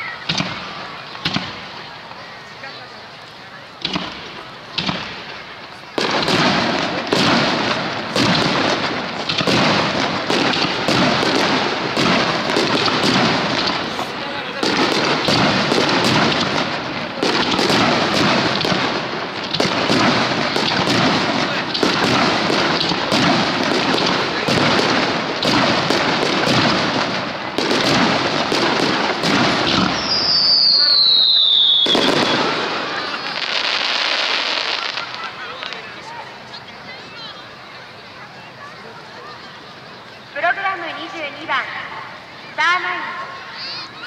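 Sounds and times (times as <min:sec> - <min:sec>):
fireworks bursting: 0:00.0 - 0:44.0
fireworks crackle and rumble: 0:00.0 - 0:44.0.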